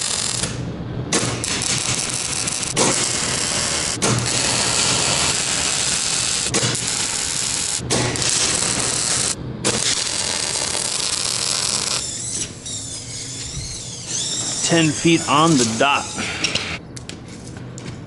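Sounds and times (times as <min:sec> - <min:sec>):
welding arc hissing: 0:00.0 - 0:00.6, 0:01.2 - 0:13.4, 0:14.1 - 0:16.8.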